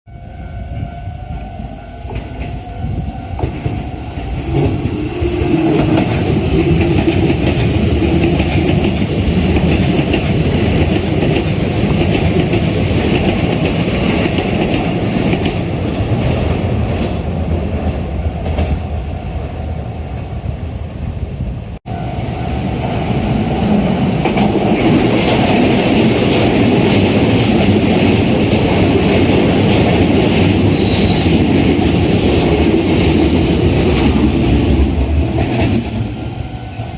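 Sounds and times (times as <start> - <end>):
train rising whine: 0.1 - 36.9
train wheels over rails: 0.8 - 36.9.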